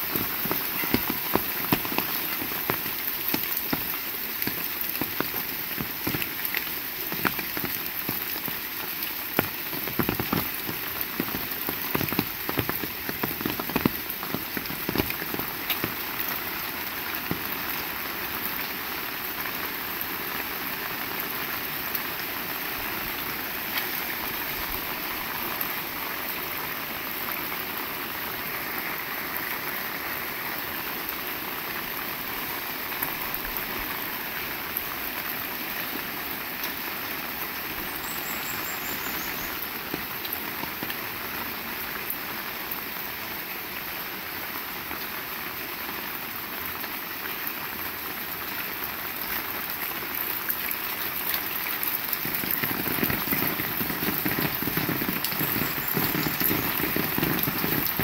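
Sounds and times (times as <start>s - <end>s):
heavy rain falling: 0.0s - 58.0s
large raindrops striking: 0.0s - 58.0s.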